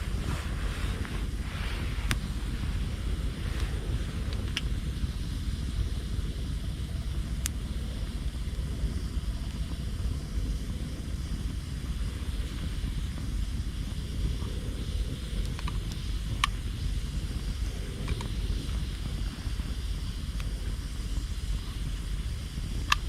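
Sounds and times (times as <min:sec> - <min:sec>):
campfire crackles and pops: 0:00.0 - 0:23.0
steady low rumble: 0:00.0 - 0:23.0.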